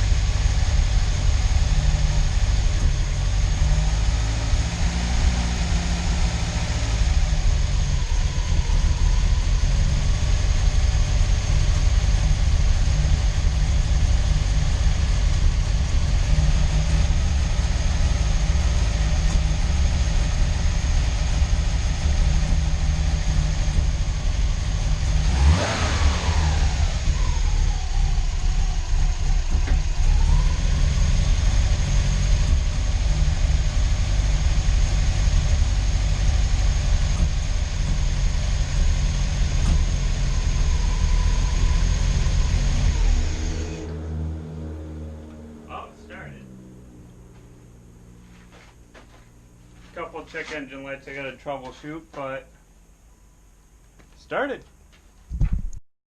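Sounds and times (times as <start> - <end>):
car engine idling and revving: 0.0 - 51.8.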